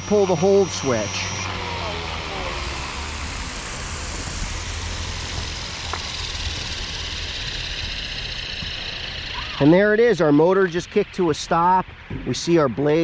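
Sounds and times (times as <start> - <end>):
helicopter rotor whirring down: 0.0 - 13.0.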